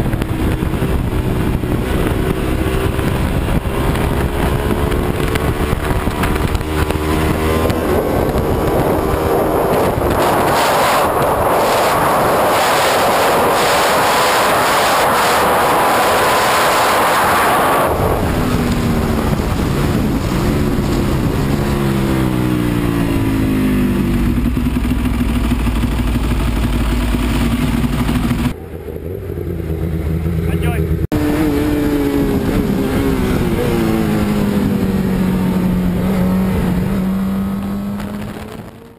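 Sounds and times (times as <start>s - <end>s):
heavy wind rush: 0.0s - 38.9s
motorcycle engine at speed: 0.0s - 38.9s.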